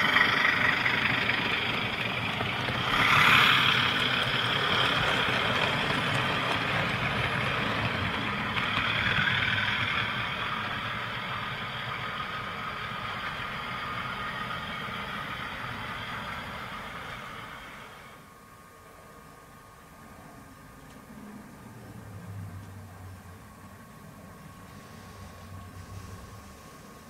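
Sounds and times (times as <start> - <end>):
model train wheels and motors rumbling: 0.0 - 27.0.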